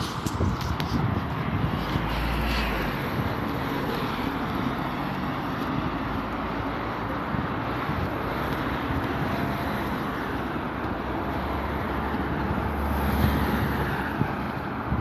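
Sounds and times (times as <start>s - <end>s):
passing motor traffic roar: 0.0s - 15.0s.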